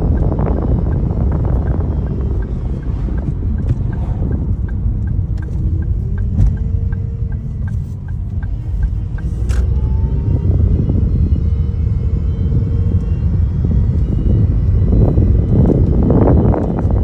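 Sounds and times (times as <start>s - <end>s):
car engine rumbling: 0.0s - 17.0s
engine ticking: 0.0s - 17.0s
power steering whine: 0.0s - 17.0s.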